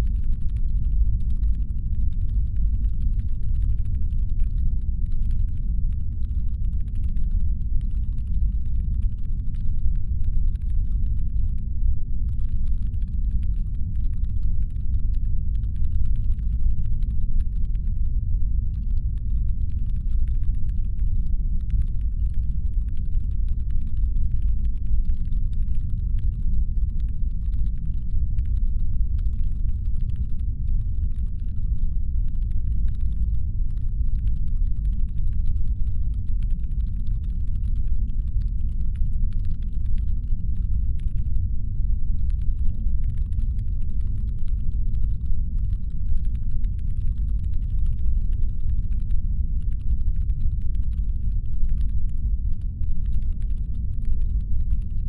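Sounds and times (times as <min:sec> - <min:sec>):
faint irregular clicking: 0:00.0 - 0:41.5, 0:42.1 - 0:55.0
deep engine hum rumble: 0:00.0 - 0:55.0.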